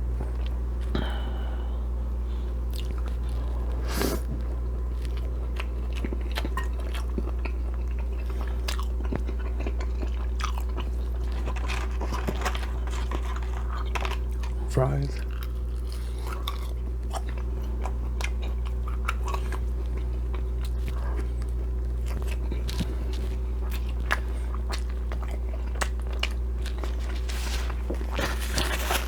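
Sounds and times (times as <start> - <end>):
steady low hum: 0.0 - 29.0
person chewing french fries: 2.4 - 29.0.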